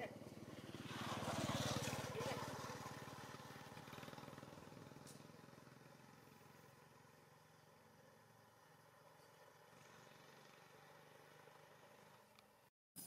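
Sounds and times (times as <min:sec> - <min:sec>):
vehicle engine: 0:00.0 - 0:12.7.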